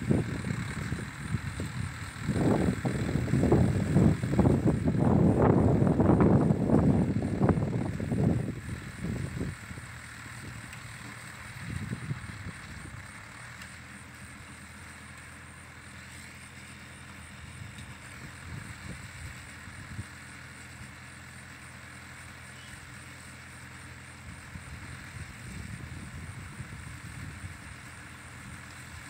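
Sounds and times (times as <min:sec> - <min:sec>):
straw baler working: 0:00.0 - 0:29.0
tractor engine running: 0:00.0 - 0:29.0.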